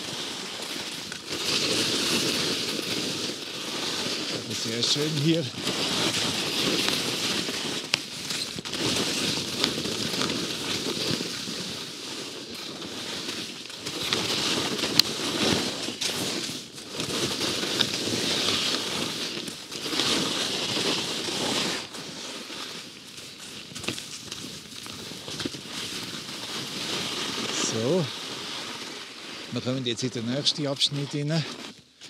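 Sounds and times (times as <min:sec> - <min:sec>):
skis scraping over snow: 0:00.0 - 0:32.0.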